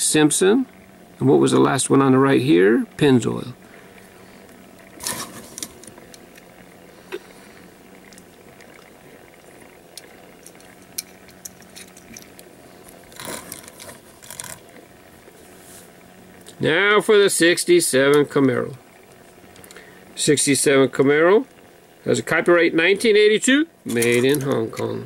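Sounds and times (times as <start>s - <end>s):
quiet steady hum: 0.0s - 25.0s.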